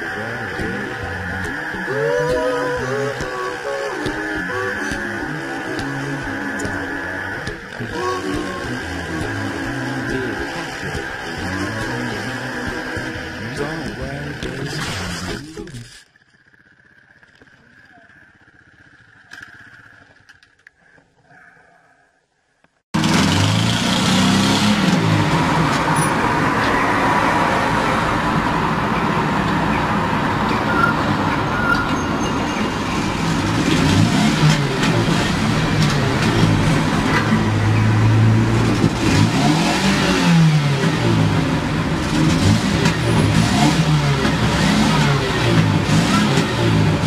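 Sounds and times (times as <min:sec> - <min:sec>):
car engine revving: 0:00.0 - 0:15.8, 0:23.0 - 0:47.0.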